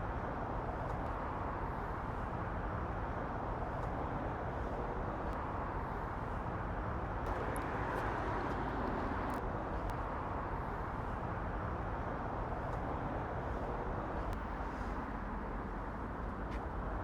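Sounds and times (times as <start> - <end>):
distant road traffic rumble: 0.8 - 17.0.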